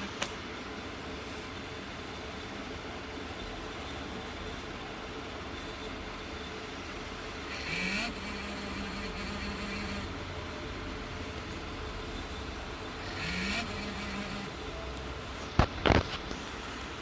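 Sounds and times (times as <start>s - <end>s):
road vehicle noise: 0.0s - 17.0s.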